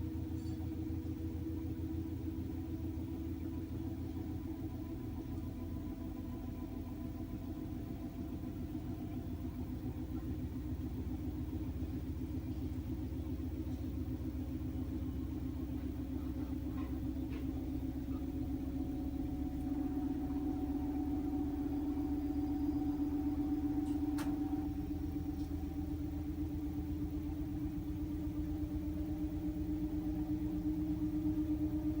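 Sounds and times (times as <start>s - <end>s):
washing machine spinning: 0.0s - 32.0s.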